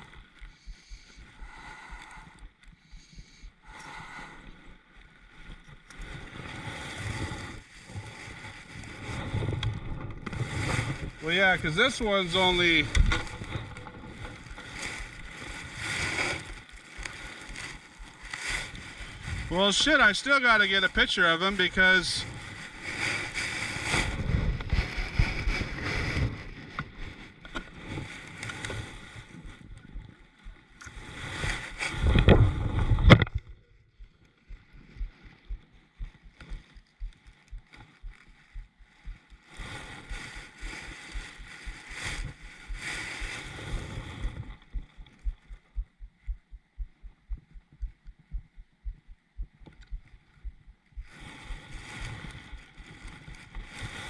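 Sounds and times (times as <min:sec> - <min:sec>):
water lapping against kayak: 0:00.0 - 0:54.0
rustling and knocking on boat: 0:05.0 - 0:19.9, 0:22.3 - 0:54.0.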